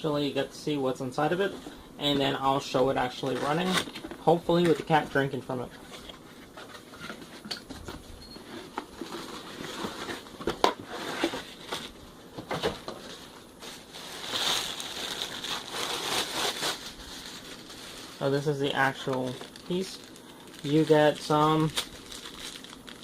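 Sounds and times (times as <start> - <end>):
packaging rustling and crinkling: 1.3 - 7.5, 8.4 - 23.0.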